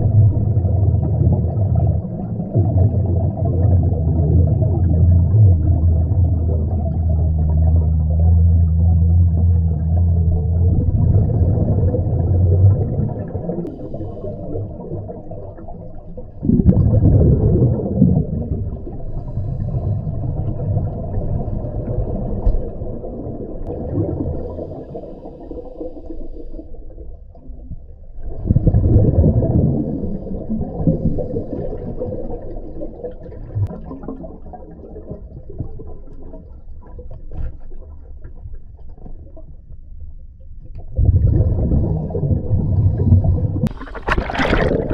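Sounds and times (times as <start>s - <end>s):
underwater regulator bubbling: 0.0s - 36.9s, 40.8s - 44.9s.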